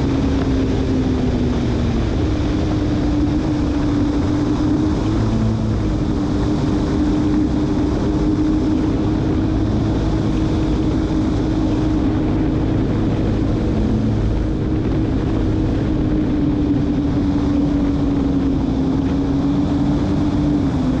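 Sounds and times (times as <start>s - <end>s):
jet ski engine: 0.0s - 21.0s
wind and spray rushing: 0.0s - 21.0s.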